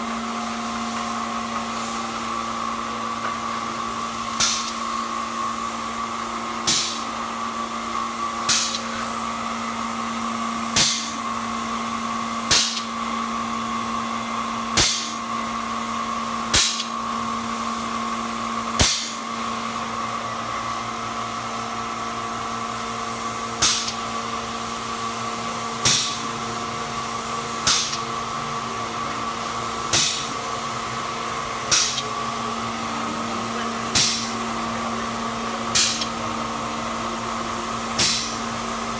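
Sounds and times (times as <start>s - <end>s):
spray pump humming and hissing: 0.0s - 38.9s.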